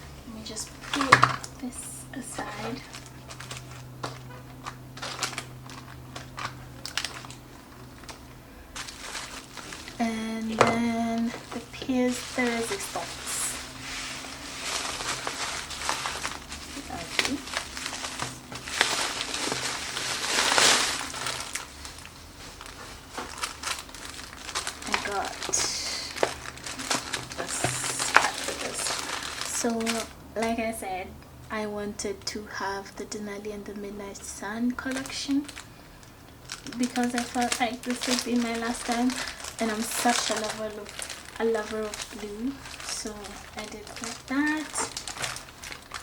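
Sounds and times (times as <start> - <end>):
faint low hum: 0.0 - 46.0
packaging clicks and rustles: 0.6 - 30.7, 34.8 - 46.0.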